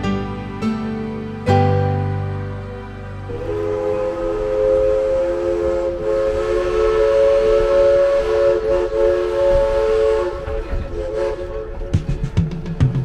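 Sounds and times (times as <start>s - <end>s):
steam whistle chord: 0.0s - 12.4s
train running noise: 0.0s - 13.0s.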